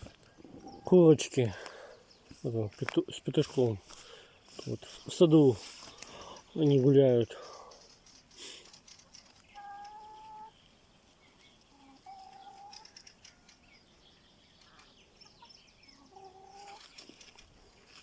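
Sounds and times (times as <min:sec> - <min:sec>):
chickens calling: 0:00.0 - 0:18.0.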